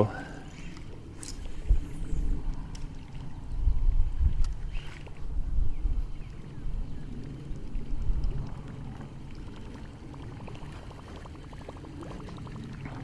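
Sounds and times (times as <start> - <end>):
water around boat: 0.0 - 13.0
wind on microphone: 0.0 - 13.0.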